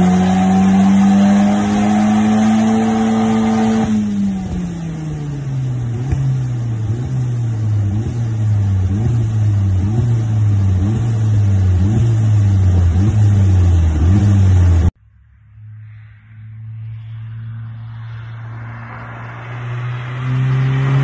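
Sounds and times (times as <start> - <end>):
distant car engine drone: 0.0 - 21.0
loud car exhaust wavering: 0.0 - 21.0.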